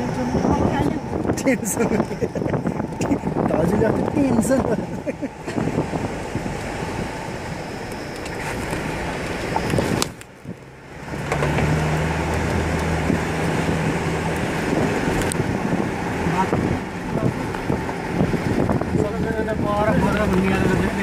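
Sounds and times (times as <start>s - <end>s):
car engine hum: 0.0s - 21.0s
road and wind noise: 0.0s - 21.0s.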